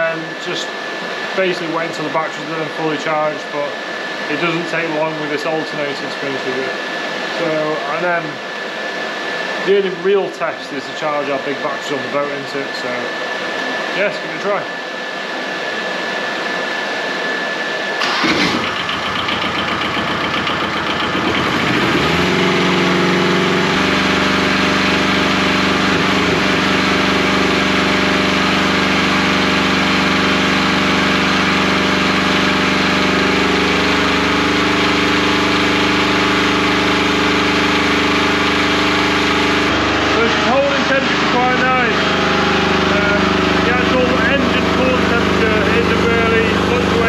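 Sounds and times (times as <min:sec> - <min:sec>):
generator engine running: 0:00.0 - 0:47.0.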